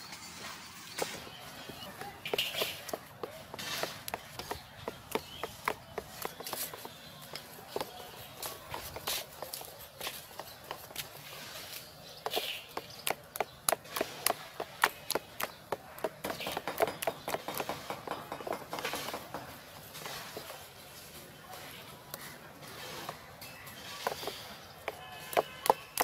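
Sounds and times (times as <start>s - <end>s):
wet scraping of batter: 1.1s - 17.9s, 18.8s - 26.0s.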